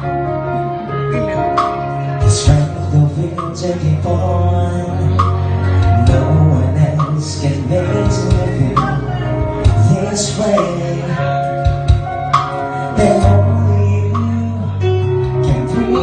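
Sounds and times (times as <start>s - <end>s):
amplified band music: 0.0s - 16.0s
man singing into microphone: 1.0s - 16.0s.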